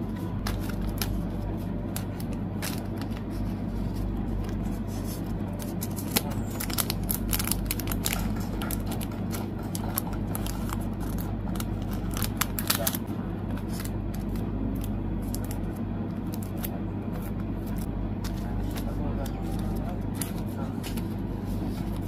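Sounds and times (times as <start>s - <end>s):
steady low hum: 0.0s - 22.0s
plastic sleeves crinkling: 0.3s - 22.0s.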